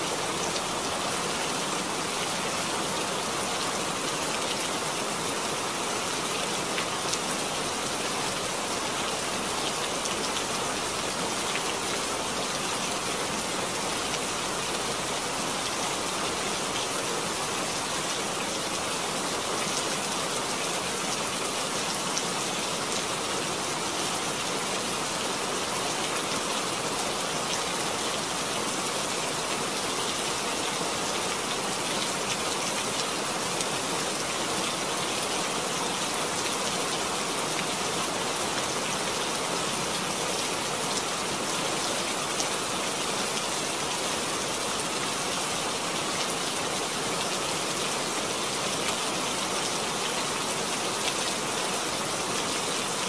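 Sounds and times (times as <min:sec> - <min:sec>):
heavy rain on wet ground: 0:00.0 - 0:53.0.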